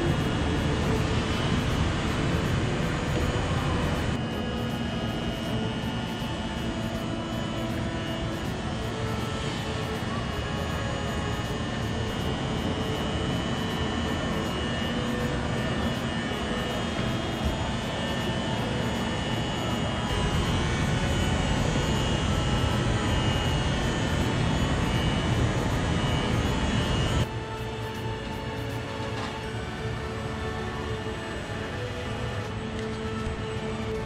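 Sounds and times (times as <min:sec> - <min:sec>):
faint high whine: 0:00.0 - 0:34.0
tram equipment droning: 0:00.0 - 0:34.0.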